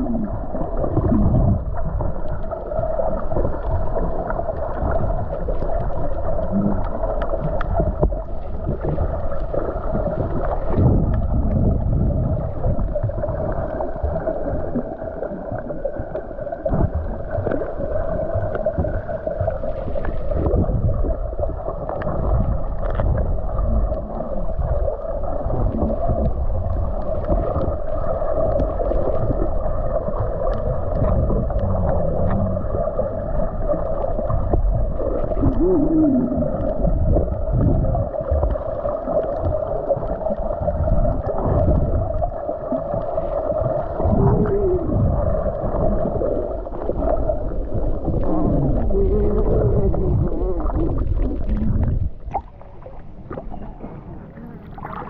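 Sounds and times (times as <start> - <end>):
muffled churning water underwater: 0.0 - 55.0.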